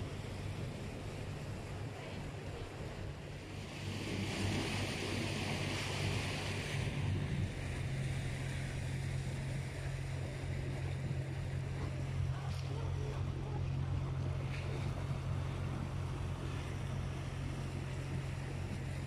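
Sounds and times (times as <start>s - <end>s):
boat motor humming: 0.0s - 19.0s
water rushing along hull: 0.0s - 19.0s.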